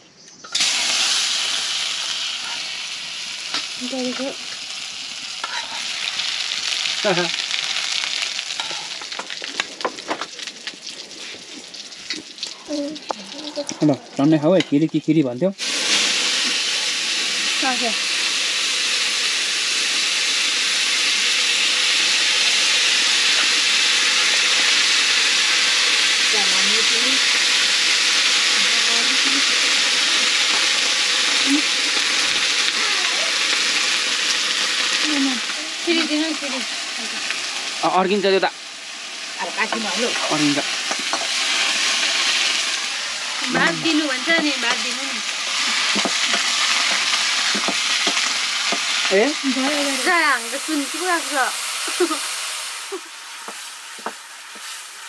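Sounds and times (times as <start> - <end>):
steady sizzling hiss: 0.0 - 55.0
greens steaming in a wok: 0.4 - 55.0.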